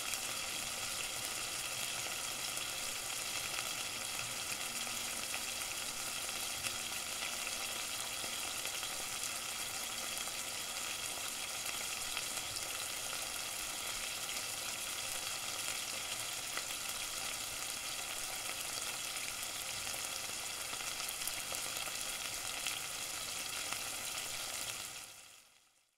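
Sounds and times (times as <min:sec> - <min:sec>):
food sizzling in a pan: 0:00.0 - 0:25.9.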